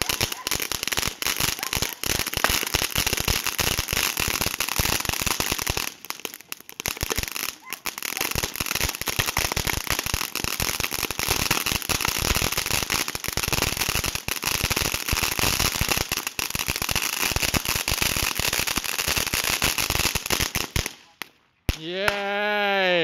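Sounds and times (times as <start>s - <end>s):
firework fountain hissing sparks: 0.0s - 21.0s
rapid crackling pops: 0.0s - 22.8s.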